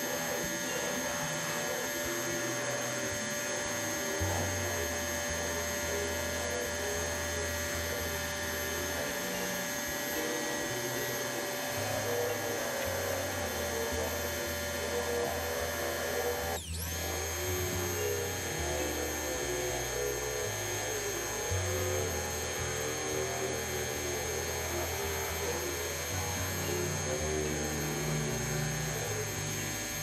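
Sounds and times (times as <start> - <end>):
pressure washer whine: 0.0 - 30.0.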